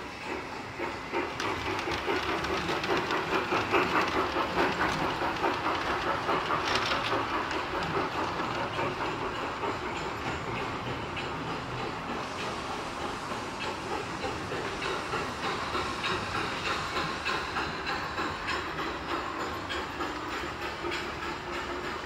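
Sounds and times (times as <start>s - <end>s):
model steam locomotive clatter: 0.0s - 22.0s.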